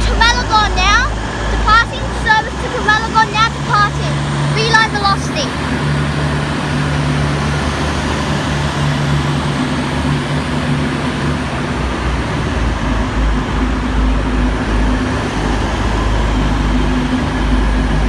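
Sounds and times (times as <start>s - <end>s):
diesel railcar engine hum: 0.0s - 18.0s.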